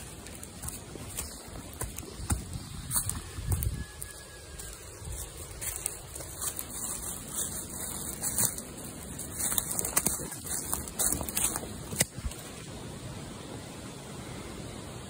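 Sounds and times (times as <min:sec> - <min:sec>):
footsteps crunching through leaves: 0:00.0 - 0:12.6.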